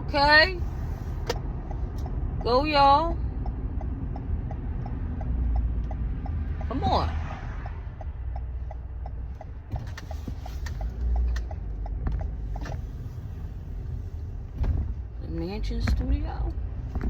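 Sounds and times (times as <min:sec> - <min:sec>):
engine and road rumble: 0:00.0 - 0:17.0
turn signal ticking: 0:00.0 - 0:17.0.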